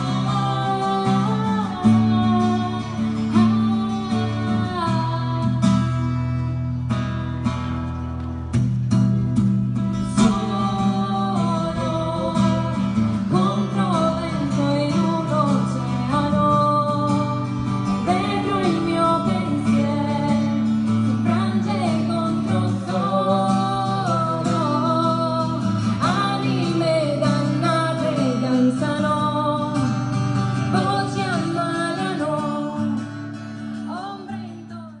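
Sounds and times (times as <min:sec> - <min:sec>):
woman singing: 0:00.0 - 0:06.0, 0:10.0 - 0:35.0
acoustic guitar: 0:00.0 - 0:35.0.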